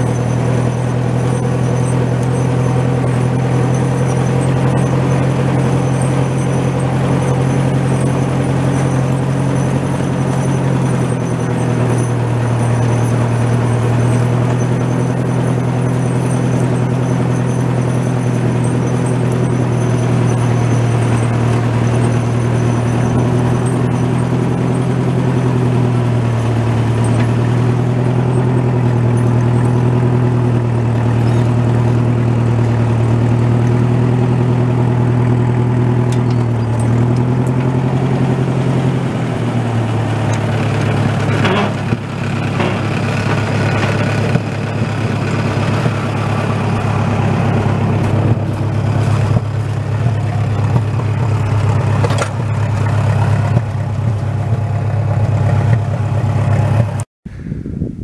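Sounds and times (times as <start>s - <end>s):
tractor engine idling: 0.0s - 57.8s.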